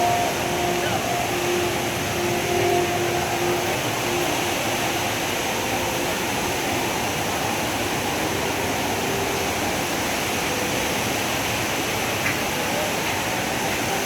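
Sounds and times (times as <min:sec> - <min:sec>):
indoor waterfall rushing: 0:00.0 - 0:14.0.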